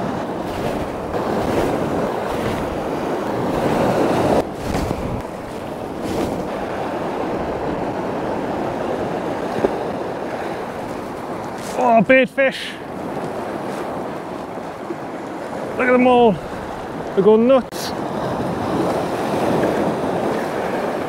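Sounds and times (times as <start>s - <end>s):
sea surf on rocky shore: 0.0s - 21.0s
wind gusting across microphone: 0.0s - 21.0s.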